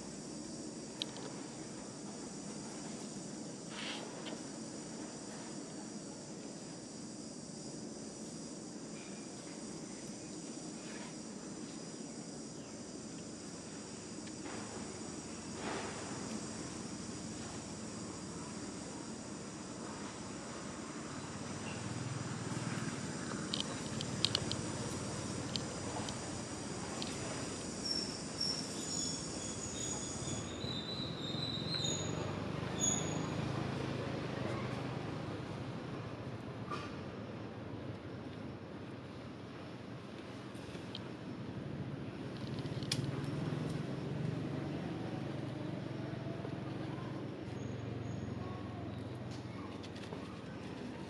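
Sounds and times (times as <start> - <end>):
constant low noise: 0.0 - 51.0
insects droning: 0.0 - 51.0.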